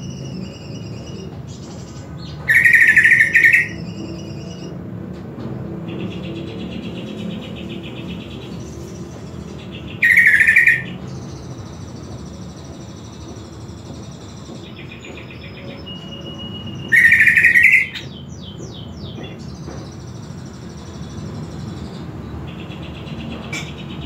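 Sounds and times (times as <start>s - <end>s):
bird singing: 0.0s - 4.9s, 5.7s - 24.0s.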